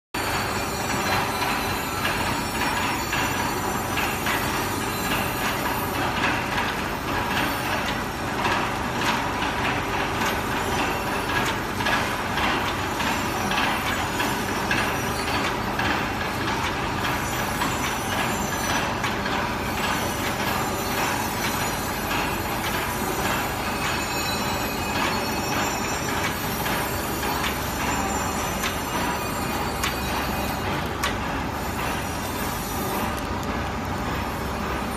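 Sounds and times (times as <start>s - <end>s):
packing machine clattering: 0.3s - 34.2s.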